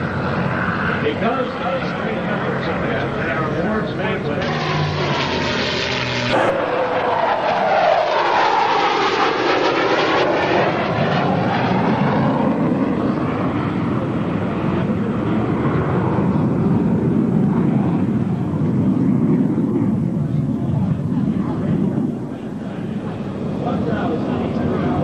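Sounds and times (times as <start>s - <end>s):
airplane passing overhead: 0.0s - 25.0s.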